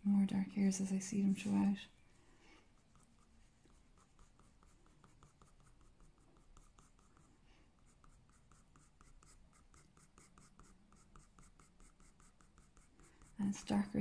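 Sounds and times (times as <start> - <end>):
pencil scratching on paper: 2.6 - 14.0.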